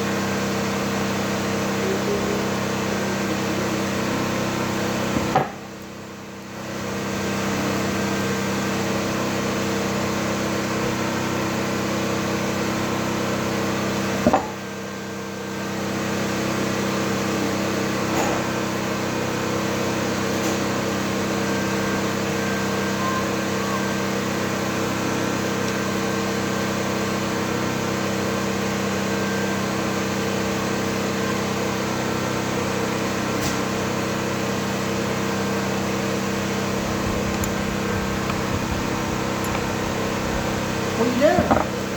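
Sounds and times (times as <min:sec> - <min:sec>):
engine idling hum: 0:00.0 - 0:41.9.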